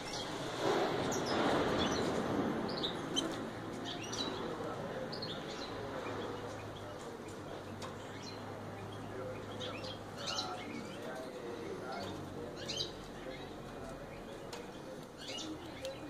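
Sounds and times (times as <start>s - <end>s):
canaries chirping: 0.0s - 16.0s.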